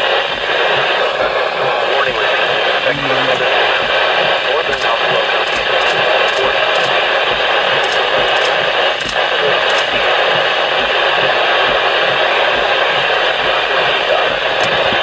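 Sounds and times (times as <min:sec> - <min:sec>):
loud steady hiss: 0:00.0 - 0:15.0.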